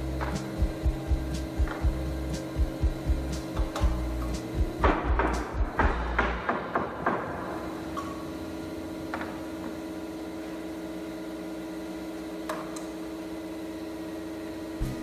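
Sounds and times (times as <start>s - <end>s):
steady hum of held tones: 0.0s - 6.4s, 7.3s - 15.0s.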